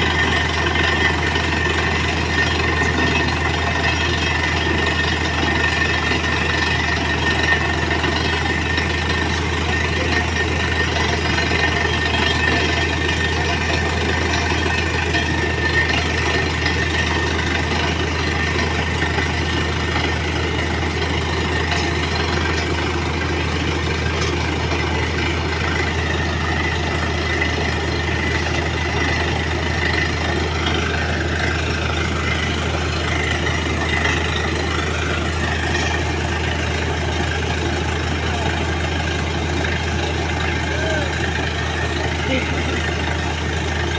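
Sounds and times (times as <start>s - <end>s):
drilling rig engine drone: 0.0s - 43.9s.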